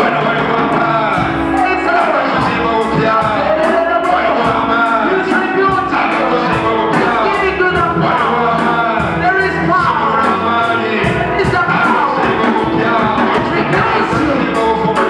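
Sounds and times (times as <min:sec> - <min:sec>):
band with quick drum beat: 0:00.0 - 0:15.0
people singing worship music: 0:00.0 - 0:15.0.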